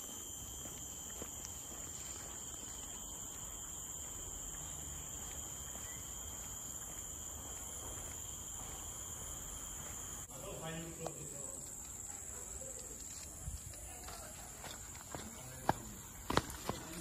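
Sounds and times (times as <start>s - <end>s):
insects droning shrilly: 0.0s - 15.1s.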